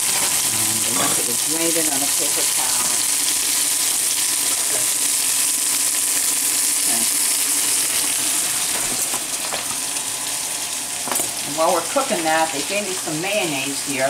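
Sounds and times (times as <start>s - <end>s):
fish fillets frying in oil: 0.0s - 14.0s.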